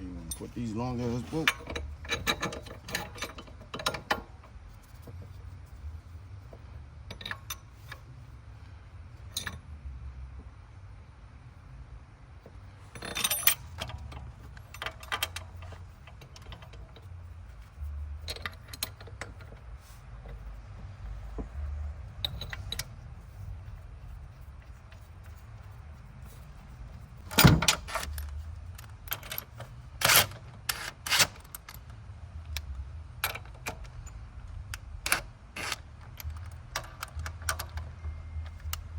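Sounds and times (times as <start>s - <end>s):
low steady rumble: 0.0s - 38.9s.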